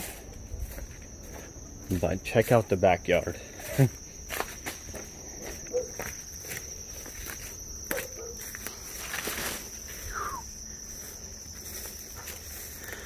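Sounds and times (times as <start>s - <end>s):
leaves rustling: 0.0s - 2.6s, 3.5s - 13.0s
footsteps in brush: 0.0s - 2.8s, 3.5s - 13.0s
insects chirring: 0.0s - 13.0s.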